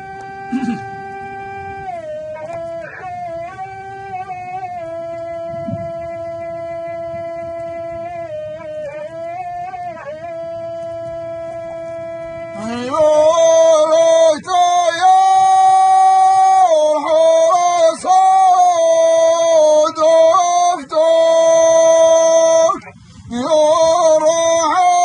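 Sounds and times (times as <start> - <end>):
man singing long high notes: 0.0 - 25.0.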